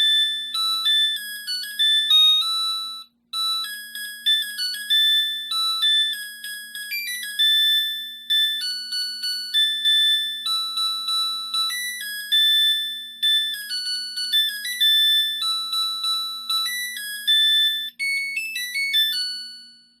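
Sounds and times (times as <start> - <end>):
washing machine beeping melody: 0.0 - 20.0.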